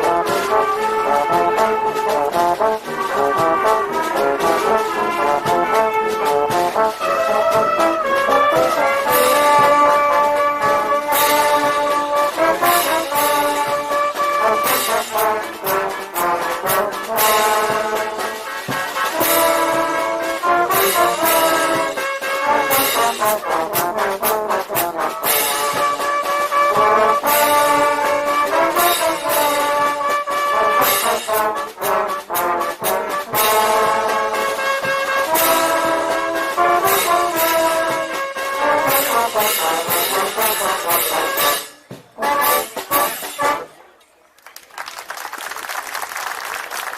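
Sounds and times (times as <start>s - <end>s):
drum and cymbal beat: 0.0s - 43.7s
trombones and trumpets: 0.0s - 43.9s.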